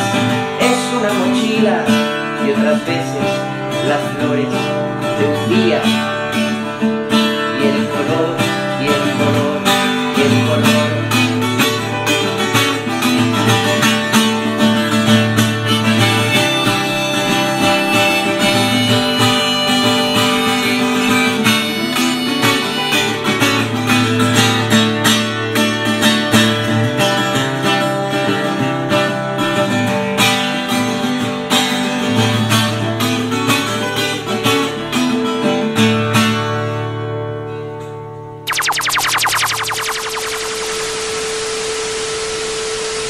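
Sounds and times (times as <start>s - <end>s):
acoustic guitar music: 0.0s - 38.4s.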